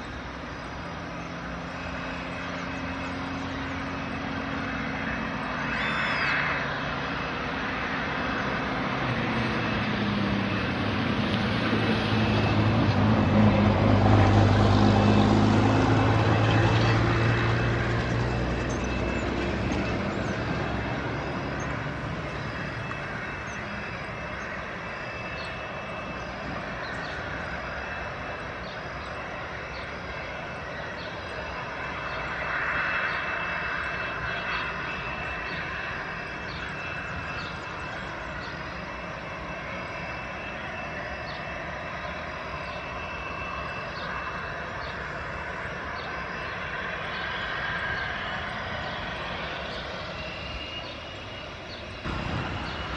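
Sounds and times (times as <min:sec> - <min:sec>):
jet engine whine: 0:00.0 - 0:52.9
low engine rumble: 0:00.0 - 0:52.9.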